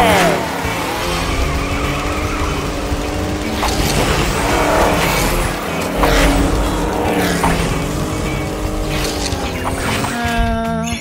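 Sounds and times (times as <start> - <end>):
cartoon engine running: 0.0 - 10.4
cartoon tyres skidding: 0.0 - 10.6
background music: 0.0 - 11.0.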